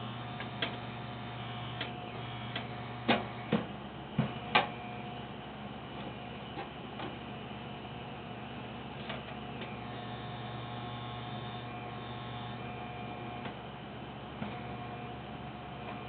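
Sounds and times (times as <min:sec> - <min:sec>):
fan heater humming: 0:00.0 - 0:16.0.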